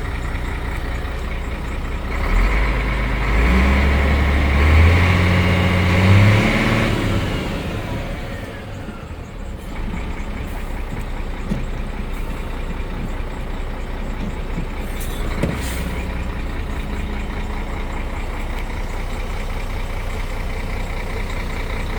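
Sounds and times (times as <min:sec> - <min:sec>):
diesel engine revving: 0:00.0 - 0:21.9.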